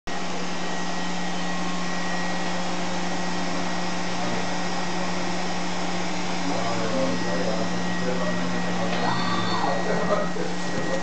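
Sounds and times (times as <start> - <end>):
machine motor humming: 0.1 - 11.0.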